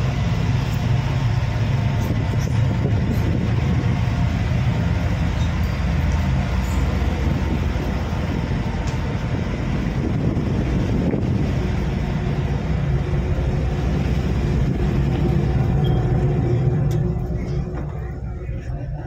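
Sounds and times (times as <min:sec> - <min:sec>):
rush of ship underway: 0:00.0 - 0:19.0
ship engines droning: 0:00.0 - 0:19.0.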